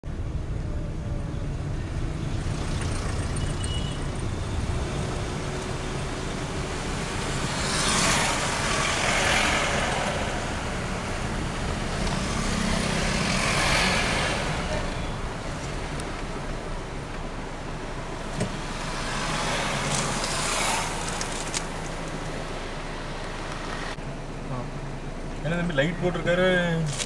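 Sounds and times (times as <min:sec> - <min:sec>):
steady engine rumble: 0:00.0 - 0:27.0
vehicles passing by: 0:00.0 - 0:27.0.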